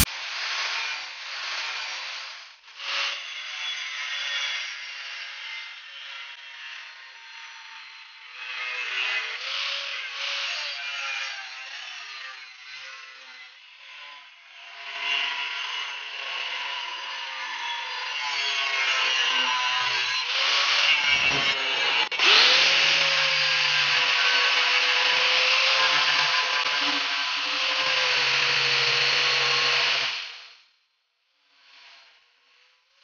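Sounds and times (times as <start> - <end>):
angle grinder grinding steel: 0.0 - 30.5.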